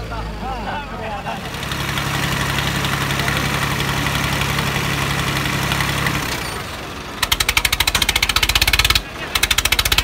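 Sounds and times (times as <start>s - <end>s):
tractor diesel engines under load: 0.0s - 10.0s.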